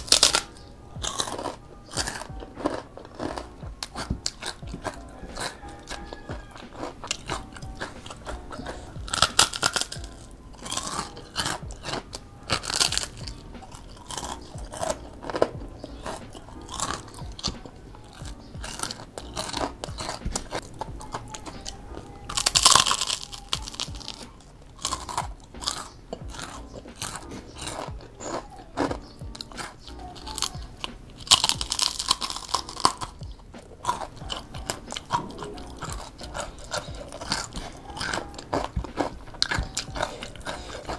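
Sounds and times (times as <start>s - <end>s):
crispy food chewing and crunching: 0.0s - 40.9s
loud crisp bites: 0.0s - 40.9s.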